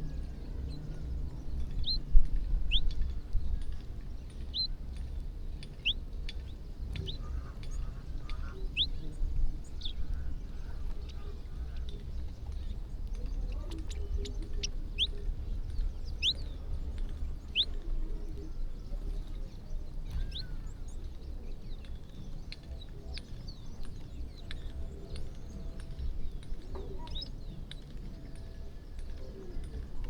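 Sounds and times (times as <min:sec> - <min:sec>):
low steady rumble: 0:00.0 - 0:30.0
small birds chirping: 0:00.0 - 0:30.0.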